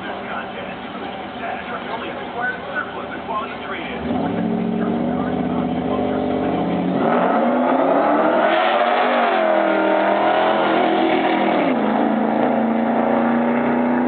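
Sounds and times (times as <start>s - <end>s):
engine accelerating hard: 2.7s - 14.0s.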